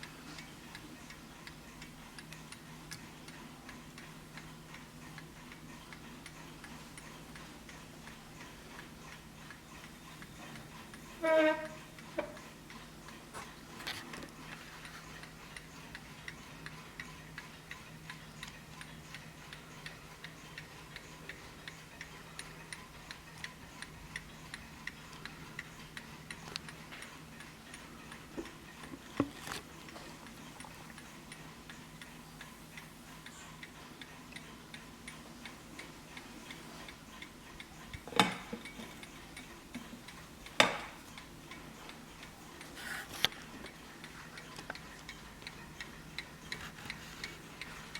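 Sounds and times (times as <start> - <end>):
clock ticking: 0.0 - 47.9.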